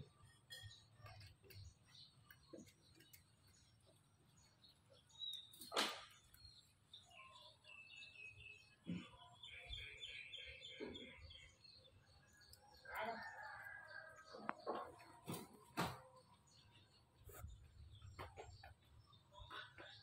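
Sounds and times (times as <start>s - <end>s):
faint bird chirping: 0.0s - 20.0s.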